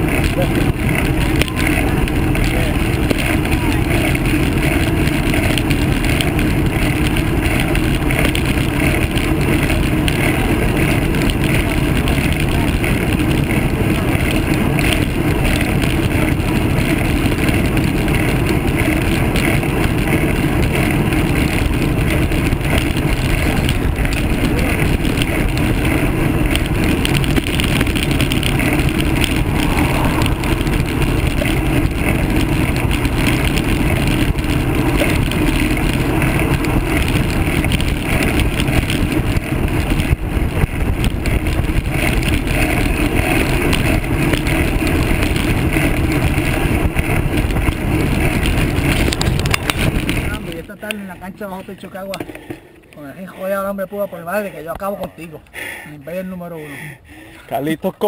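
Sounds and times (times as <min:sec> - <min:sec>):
wind rumble on microphone: 0:00.0 - 0:55.5
road noise: 0:00.0 - 0:58.0.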